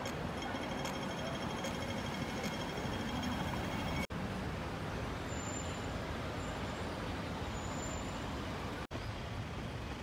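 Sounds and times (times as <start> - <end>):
city road traffic hum: 0.0 - 10.0.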